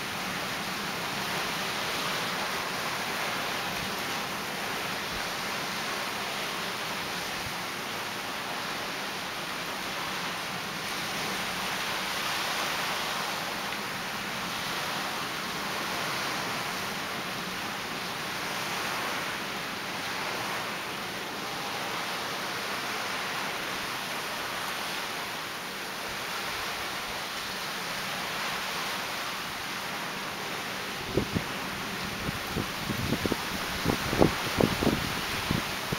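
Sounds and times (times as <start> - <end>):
ocean surf breaking on reef: 0.0 - 35.9.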